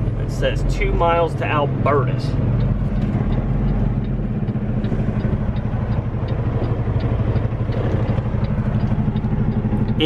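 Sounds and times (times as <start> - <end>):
diesel engine drone: 0.0 - 10.0
faint regular ticking: 0.3 - 10.0.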